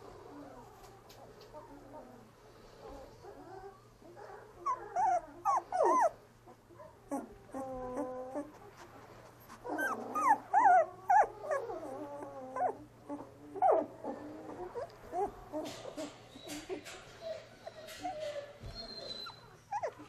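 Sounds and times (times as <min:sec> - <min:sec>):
puppies whimpering and squealing: 0:03.1 - 0:20.0.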